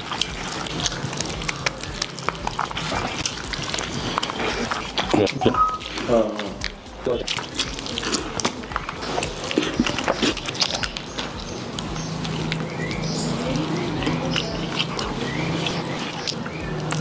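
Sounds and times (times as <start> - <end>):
man chewing and lip smacking: 0.0 - 17.0.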